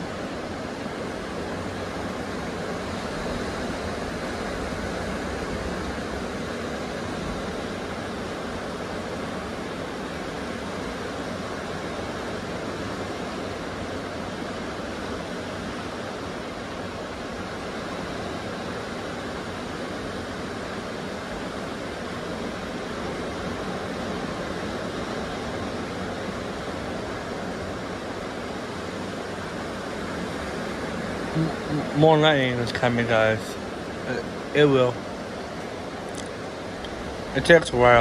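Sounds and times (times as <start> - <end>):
ocean surf: 0.0 - 38.0
wind: 0.0 - 38.0.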